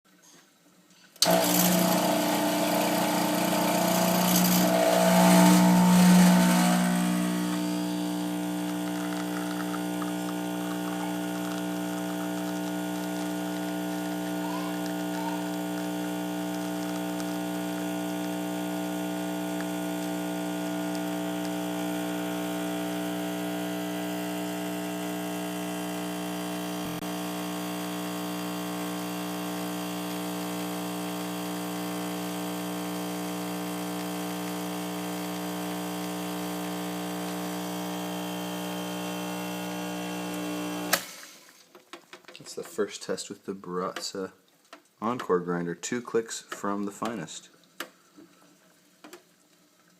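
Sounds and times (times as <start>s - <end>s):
espresso machine pump humming: 1.2s - 41.2s.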